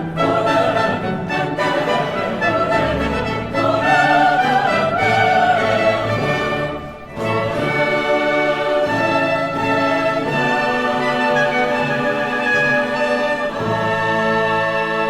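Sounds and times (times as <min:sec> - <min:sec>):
choir singing: 0:00.0 - 0:15.0
sustained orchestral strings: 0:00.0 - 0:15.0.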